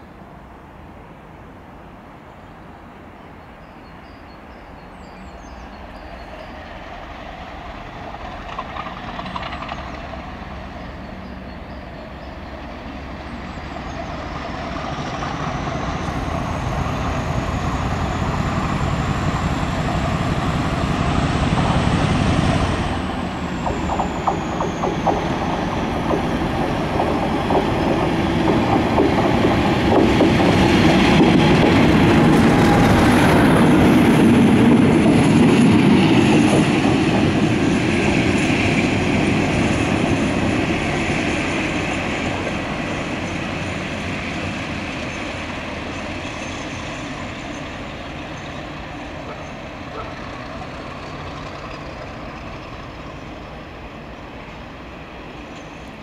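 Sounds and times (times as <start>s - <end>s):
diesel locomotive engines: 0.0s - 56.0s
rail noise: 0.0s - 56.0s
high engine whine: 7.0s - 56.0s.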